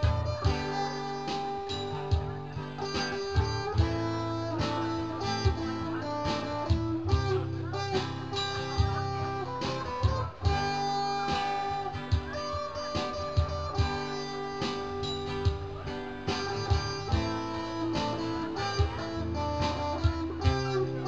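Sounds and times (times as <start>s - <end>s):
guitar strummed and picked: 0.0s - 21.0s.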